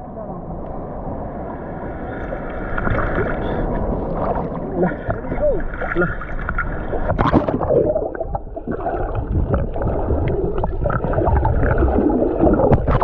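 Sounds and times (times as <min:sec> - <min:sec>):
water gurgling and sloshing: 0:00.0 - 0:13.0.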